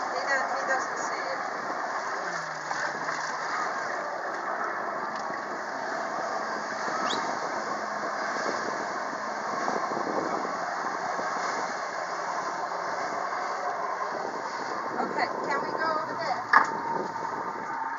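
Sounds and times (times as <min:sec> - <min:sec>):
jet ski engine running: 0:00.0 - 0:17.9
water jets rushing: 0:00.0 - 0:17.9.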